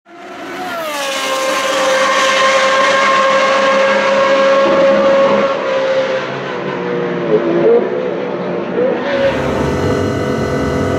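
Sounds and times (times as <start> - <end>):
racing engine at high revs: 0.1 - 10.9.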